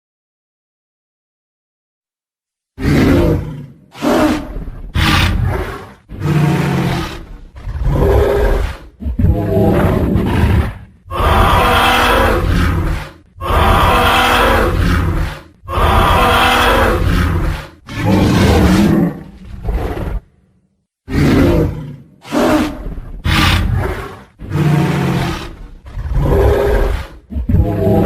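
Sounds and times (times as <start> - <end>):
dinosaur roars: 2.8 - 20.4, 21.1 - 28.0.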